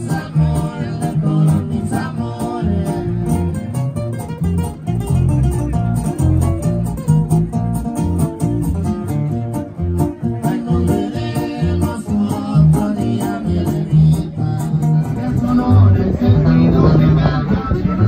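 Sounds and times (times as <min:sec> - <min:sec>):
bass guitar: 0:00.0 - 0:18.0
guitar: 0:00.0 - 0:18.0.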